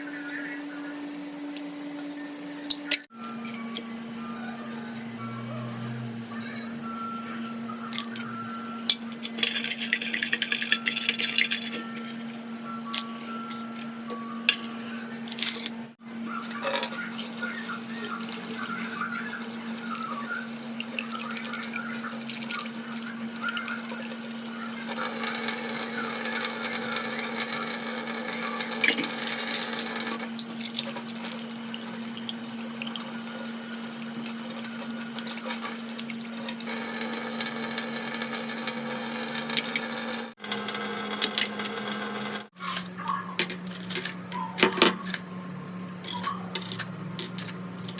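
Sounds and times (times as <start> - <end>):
steady low hum: 0.0 - 40.4.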